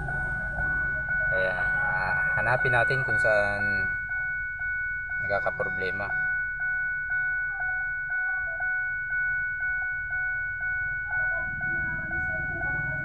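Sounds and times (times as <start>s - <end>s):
dashboard warning chime: 0.0s - 13.0s
steady ringing tone: 0.0s - 13.0s.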